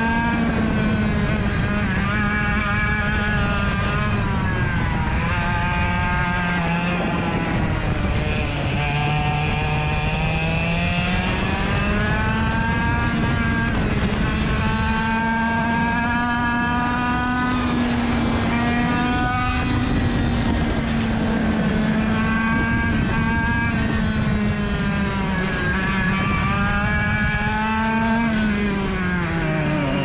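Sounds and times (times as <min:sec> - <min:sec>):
kart engine at racing revs: 0:00.0 - 0:30.0.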